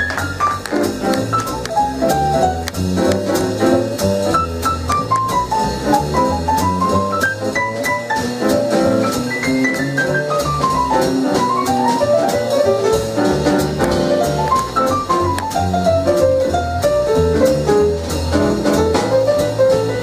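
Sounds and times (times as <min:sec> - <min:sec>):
piano runs: 0:00.0 - 0:20.0
upright bass: 0:00.0 - 0:20.0.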